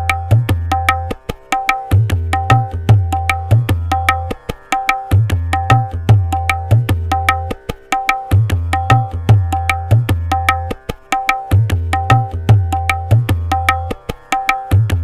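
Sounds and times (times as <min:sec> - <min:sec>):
tabla playing: 0:00.0 - 0:15.0.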